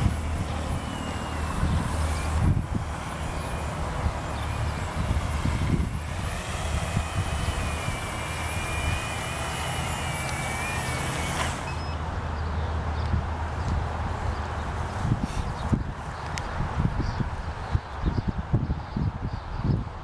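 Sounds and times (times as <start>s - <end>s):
wind buffeting microphone: 0.0s - 11.8s, 13.0s - 20.0s
drone motors and propellers: 0.0s - 20.0s.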